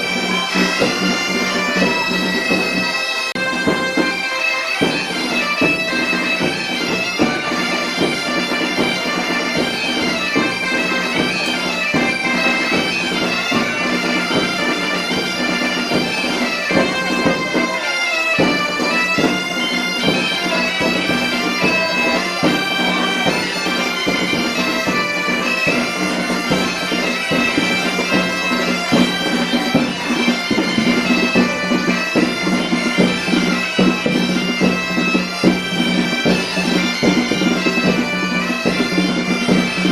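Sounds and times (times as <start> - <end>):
bagpipes playing a tune: 0.0 - 39.9
sharp percussive strikes: 0.0 - 39.9.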